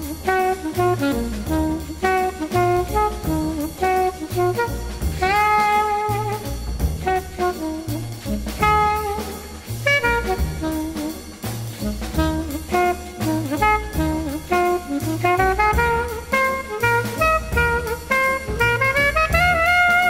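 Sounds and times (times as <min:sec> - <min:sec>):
drums: 0:00.0 - 0:20.0
horn melody: 0:00.0 - 0:20.0
upbeat jazz music: 0:00.0 - 0:20.0
walking bass: 0:00.0 - 0:20.0.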